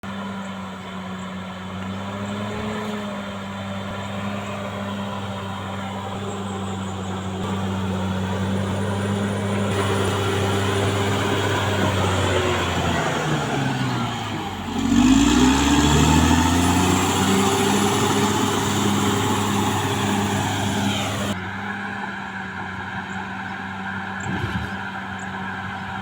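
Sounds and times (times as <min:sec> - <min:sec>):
bulldozer diesel engine running: 0:00.1 - 0:24.2.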